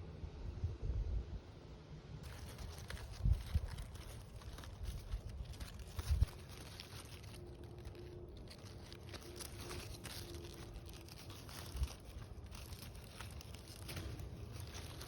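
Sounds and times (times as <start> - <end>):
faint rustling and crinkling: 2.2 - 15.0.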